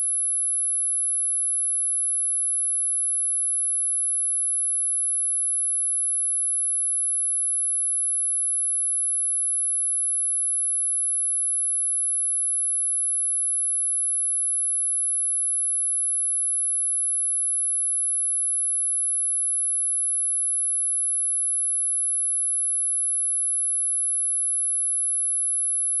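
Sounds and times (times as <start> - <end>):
high-pitched sine test tone: 0.0 - 26.0.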